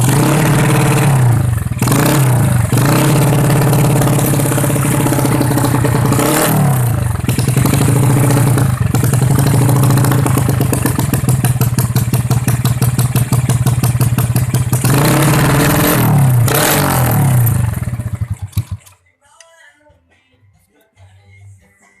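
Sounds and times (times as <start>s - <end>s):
motorcycle engine idling and revving: 0.0s - 19.0s
motorcycle engine sputtering to stop: 0.0s - 19.0s.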